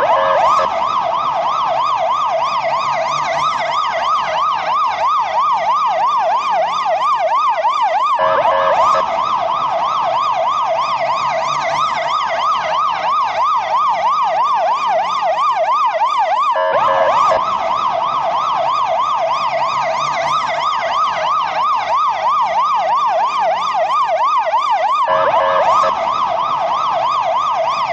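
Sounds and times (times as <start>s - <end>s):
ambulance siren wailing: 0.0s - 27.9s.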